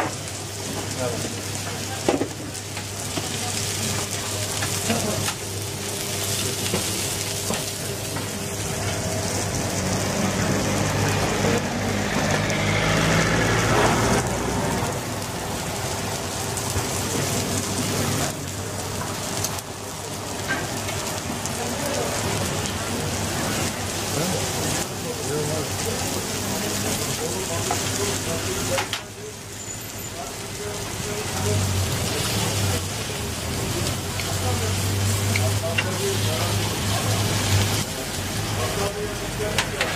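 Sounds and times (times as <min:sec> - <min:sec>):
fish sizzling on griddle: 0:00.0 - 0:39.9.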